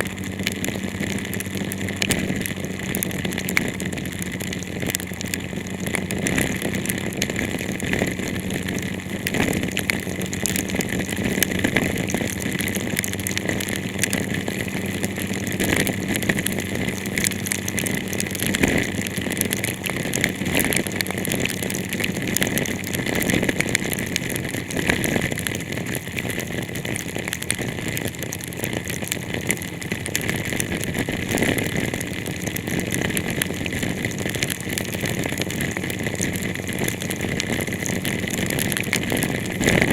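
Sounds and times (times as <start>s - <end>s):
rain on car body: 0.0s - 39.9s
vehicle low hum: 0.0s - 39.9s.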